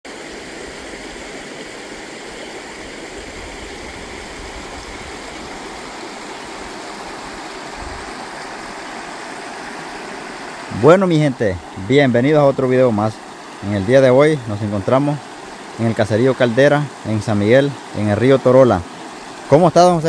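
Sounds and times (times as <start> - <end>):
river rushing over stones: 0.1 - 20.0.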